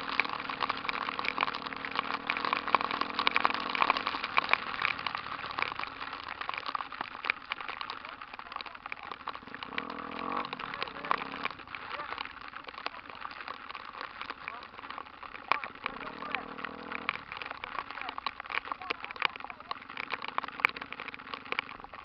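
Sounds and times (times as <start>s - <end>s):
rain pattering on camera: 0.0s - 22.0s.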